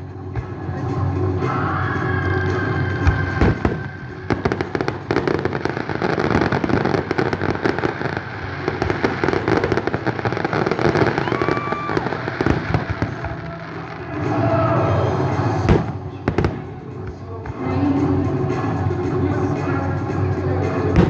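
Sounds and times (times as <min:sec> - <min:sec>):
fireworks bangs and crackling: 0:00.3 - 0:21.0.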